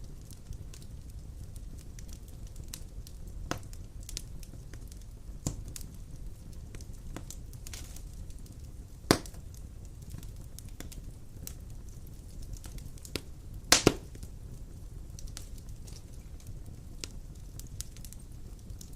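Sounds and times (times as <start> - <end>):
low rumble of flames: 0.0 - 18.9
wood fire crackles and pops: 0.0 - 18.9.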